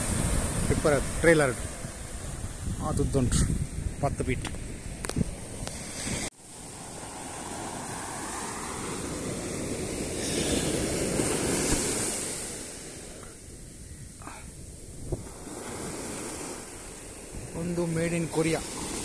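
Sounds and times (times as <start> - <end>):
wind on microphone: 0.0 - 6.3, 7.6 - 19.0
surf washing on sand: 0.0 - 19.0.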